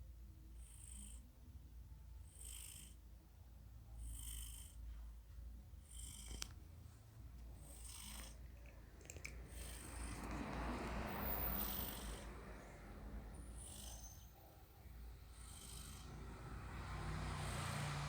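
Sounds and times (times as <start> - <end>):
cat snoring softly: 0.4 - 1.4, 2.2 - 3.2, 3.8 - 5.0, 5.8 - 6.6, 7.5 - 18.0.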